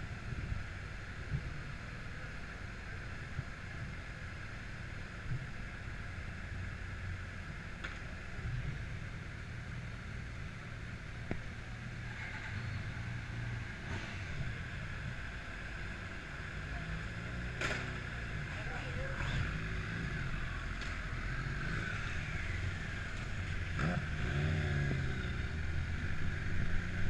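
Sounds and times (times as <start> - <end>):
highway vehicle rumble: 0.0 - 27.0
road hiss: 0.0 - 27.0.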